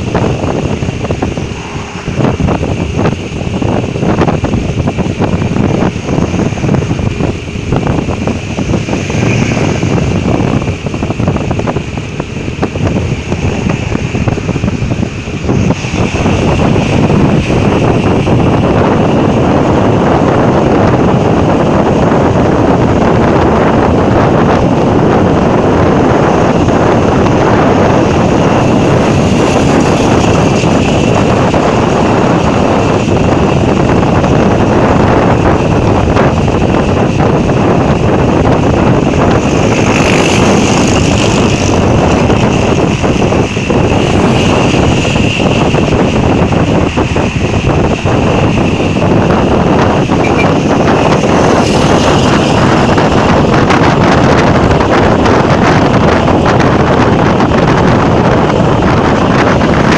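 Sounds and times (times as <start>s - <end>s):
motorcycle road noise: 0.0s - 59.9s
wind rushing over microphone: 0.0s - 59.9s.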